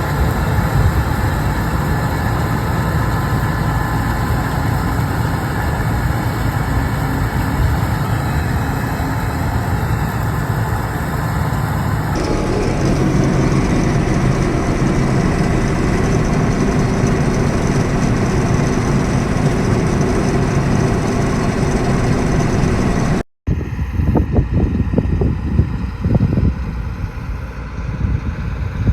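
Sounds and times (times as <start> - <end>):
combine harvester engine drone: 0.0 - 28.9.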